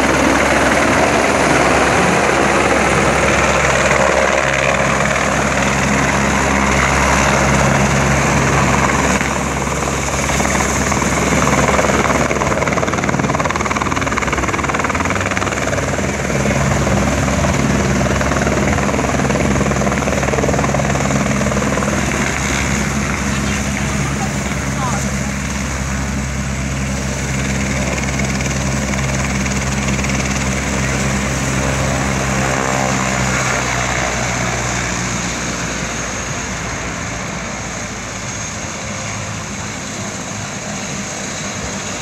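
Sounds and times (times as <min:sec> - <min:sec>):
helicopter engine and rotor: 0:00.0 - 0:42.0
low rotor hum: 0:00.0 - 0:42.0.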